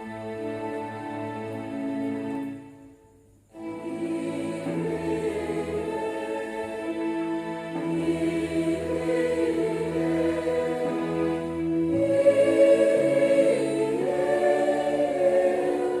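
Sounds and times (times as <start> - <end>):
church choir singing a hymn: 0.0 - 2.7, 3.5 - 16.0.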